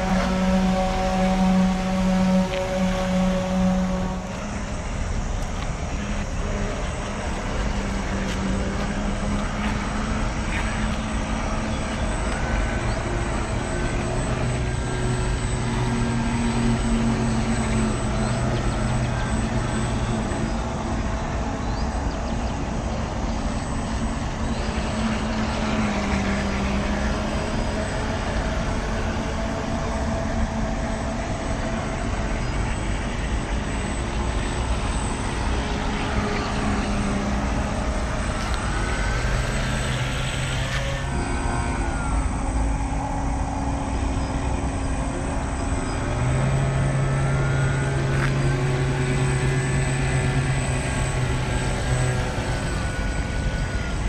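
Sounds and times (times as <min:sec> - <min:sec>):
model boat motors humming: 0:00.0 - 0:54.0
steady rushing background: 0:00.0 - 0:54.0.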